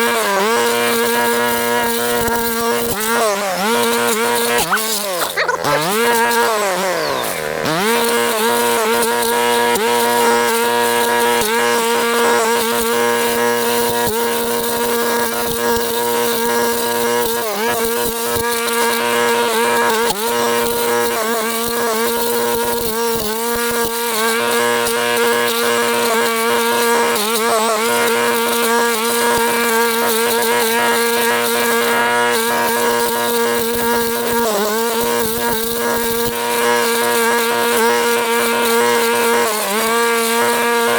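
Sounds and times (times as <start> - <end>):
brush cutter engine revving: 0.0 - 40.9.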